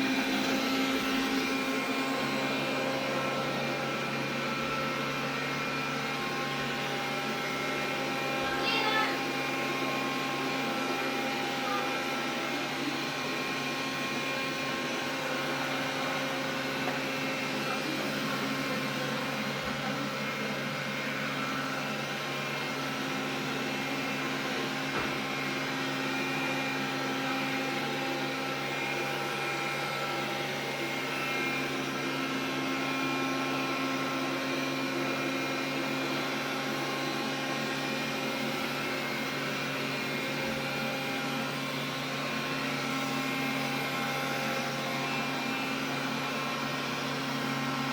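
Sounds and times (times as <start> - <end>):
vacuum cleaner motor hum: 0.0 - 47.9.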